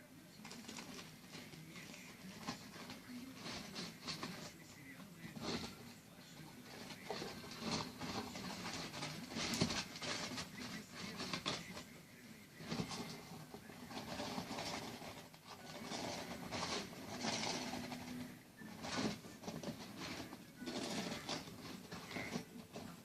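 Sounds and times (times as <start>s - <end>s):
rustling and scratching: 0.0s - 23.0s.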